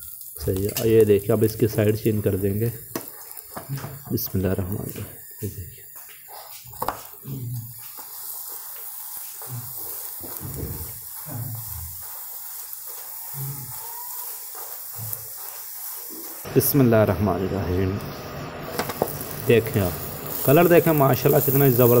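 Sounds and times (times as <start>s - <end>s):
bread sizzling in a pan: 0.0s - 16.6s, 18.5s - 22.0s.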